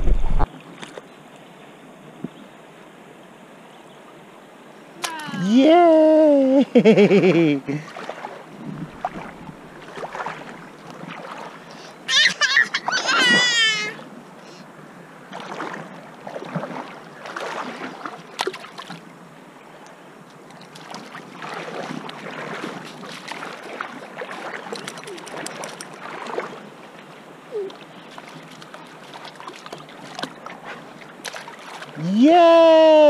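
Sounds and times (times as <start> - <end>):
river water splashing: 0.0 - 33.0.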